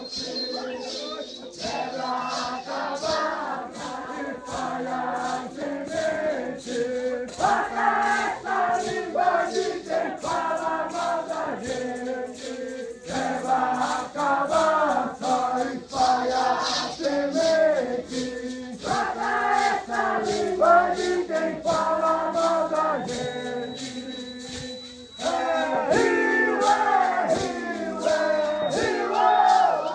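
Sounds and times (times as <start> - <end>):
group of voices chanting: 0.0 - 23.6, 24.5 - 29.9
rattle shaken in a beat: 0.0 - 29.9.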